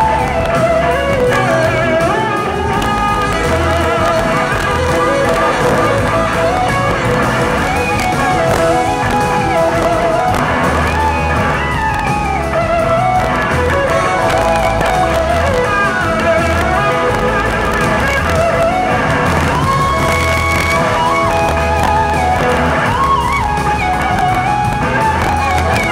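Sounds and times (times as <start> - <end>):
bass pulse: 0.0 - 25.9
electric guitars melody: 0.0 - 25.9
horn section: 0.0 - 25.9.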